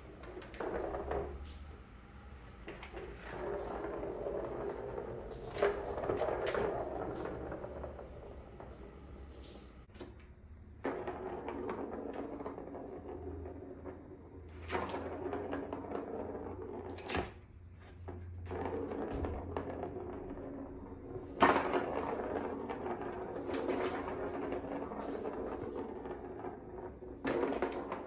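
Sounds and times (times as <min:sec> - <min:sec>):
plastic ball rolling and rattling: 0:00.0 - 0:28.0.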